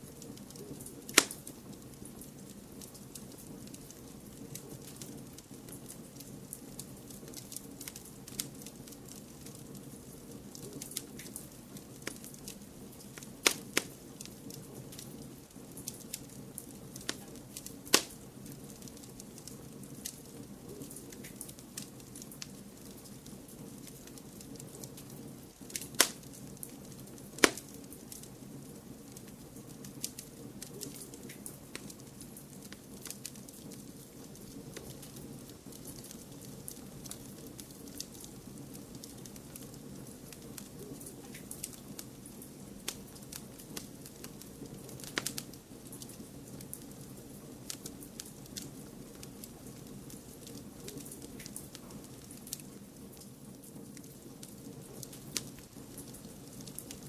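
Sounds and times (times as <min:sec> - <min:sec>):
low background noise: 0:00.0 - 0:57.0
wood fire crackling: 0:00.0 - 0:57.0
loud fire pops: 0:00.1 - 0:57.0.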